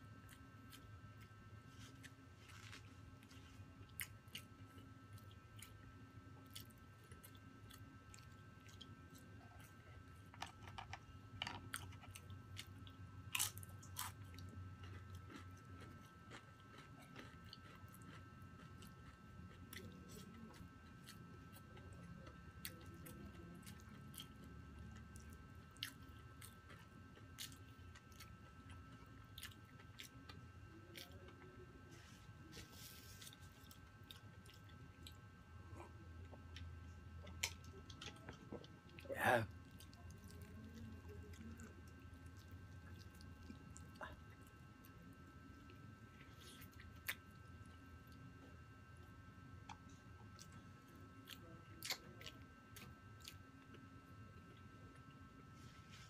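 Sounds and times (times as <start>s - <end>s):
person chewing and eating: 0.0s - 56.0s.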